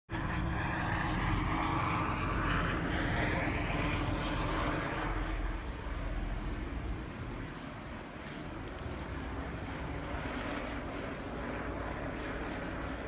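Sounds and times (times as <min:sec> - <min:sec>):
helicopter engine and rotor drone: 0:00.1 - 0:13.0.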